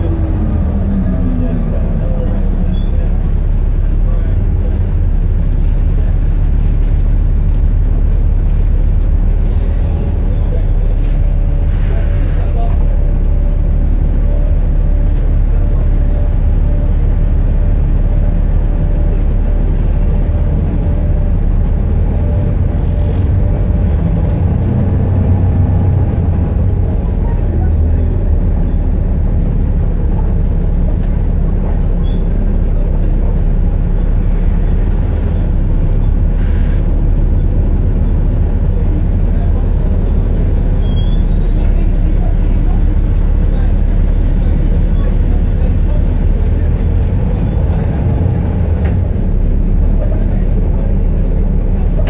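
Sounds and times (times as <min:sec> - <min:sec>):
bus diesel engine rumbling: 0:00.0 - 0:52.0.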